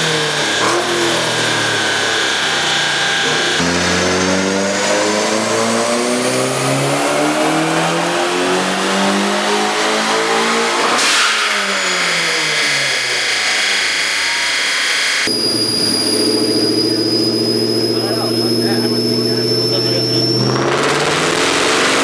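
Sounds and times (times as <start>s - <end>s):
car engine revving at full throttle: 0.0s - 22.0s.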